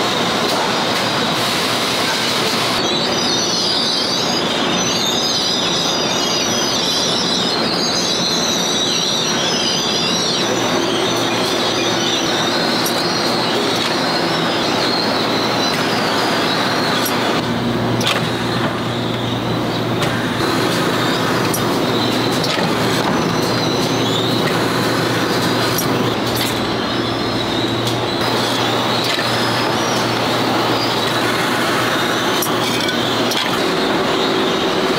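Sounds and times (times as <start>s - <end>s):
factory machinery with squealing: 0.0s - 34.9s.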